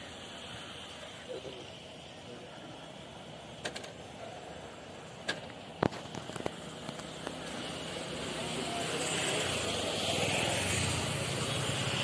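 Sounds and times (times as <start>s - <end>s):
passing traffic hum: 0.0s - 12.0s.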